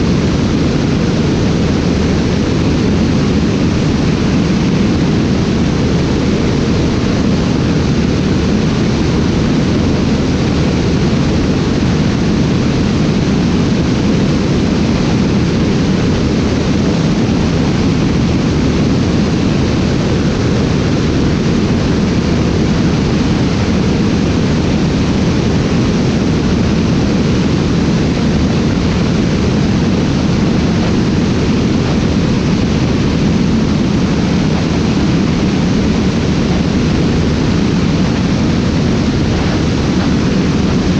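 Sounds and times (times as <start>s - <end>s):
aircraft engine drone: 0.0s - 40.9s
rushing air: 0.0s - 40.9s.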